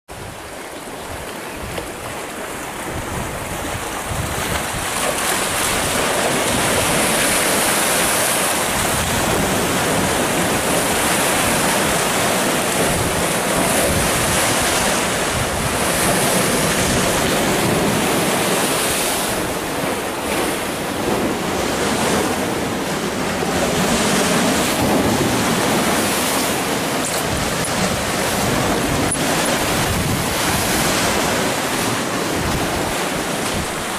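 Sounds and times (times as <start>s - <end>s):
sea surf breaking over boulders: 0.1s - 33.9s.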